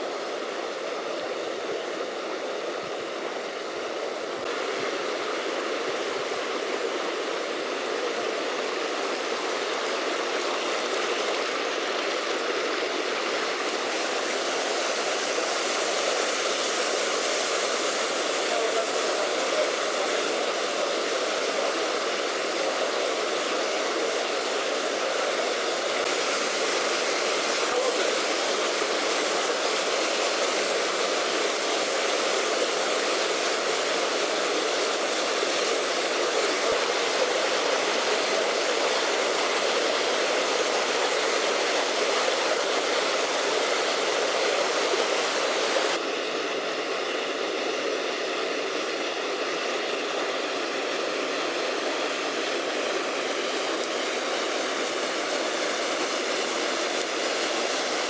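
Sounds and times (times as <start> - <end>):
waterfall rushing into pool: 0.0 - 58.0.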